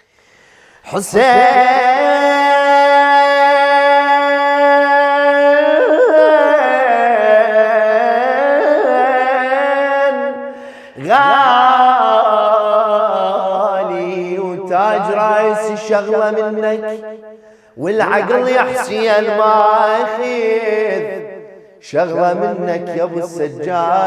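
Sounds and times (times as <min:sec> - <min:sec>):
man singing a held vowel: 0:00.9 - 0:17.1, 0:17.8 - 0:24.0.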